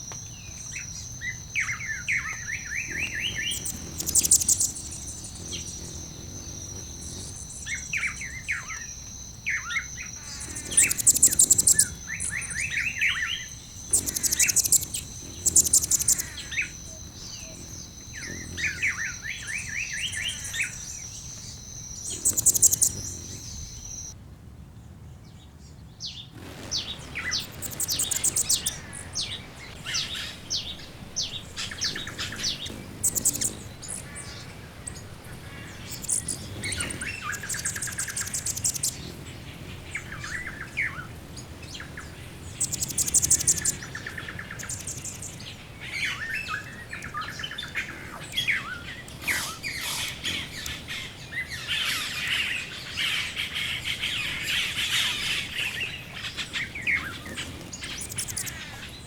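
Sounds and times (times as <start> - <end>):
high buzzy bird trills: 0.0 - 24.2, 26.4 - 59.0
wild birds chirping: 0.0 - 24.2, 26.0 - 59.0.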